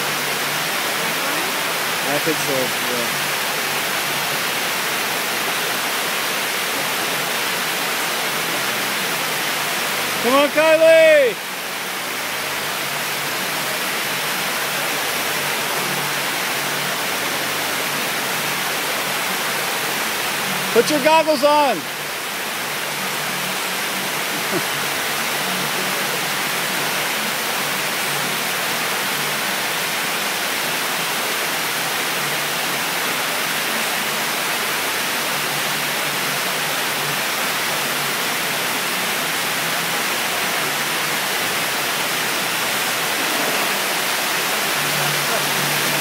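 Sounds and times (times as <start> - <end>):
water rushing over ramp: 0.0 - 46.0.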